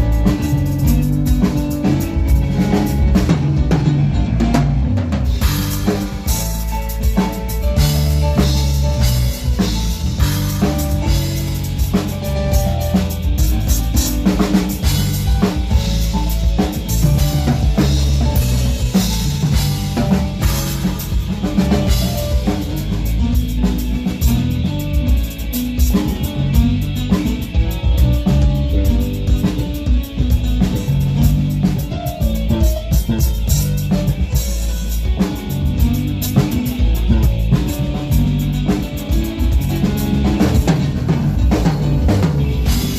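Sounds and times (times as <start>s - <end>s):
band playing instrumental: 0.0s - 42.9s
drum kit hits: 0.0s - 42.9s.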